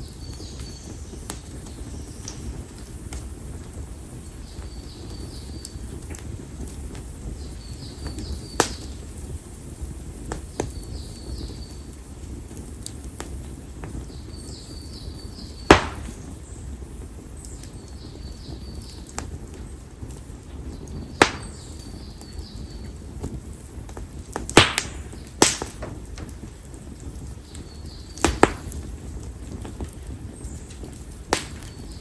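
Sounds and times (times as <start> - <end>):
campfire flame rumble: 0.0 - 32.0
fire crackling and popping: 0.0 - 32.0.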